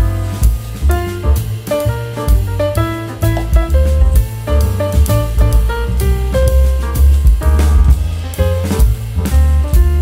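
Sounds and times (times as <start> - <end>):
upbeat jazzy music with drums: 0.0 - 10.0.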